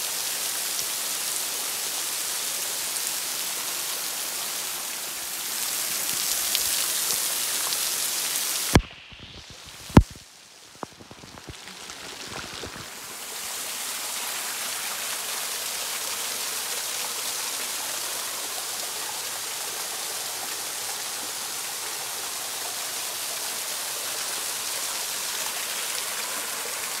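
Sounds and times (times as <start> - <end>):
water drips and splashes: 0.0 - 27.0
waterfall rushing: 0.0 - 27.0.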